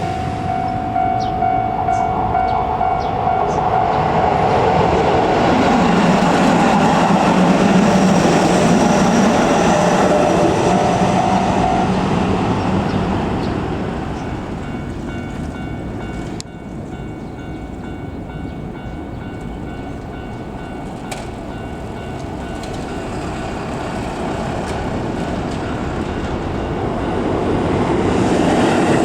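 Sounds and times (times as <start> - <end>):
crossing warning bell: 0.0 - 29.0
electric train passing: 0.0 - 29.0.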